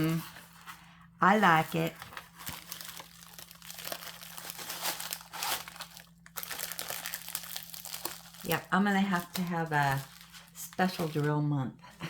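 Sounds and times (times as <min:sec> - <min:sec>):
plastic packaging crinkling: 0:01.3 - 0:11.4.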